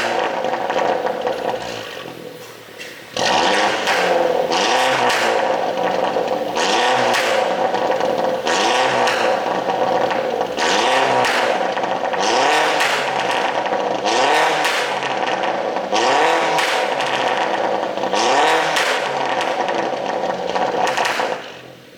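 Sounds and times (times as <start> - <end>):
car engine revving: 0.0 - 21.9
exhaust crackling pops: 0.0 - 21.9.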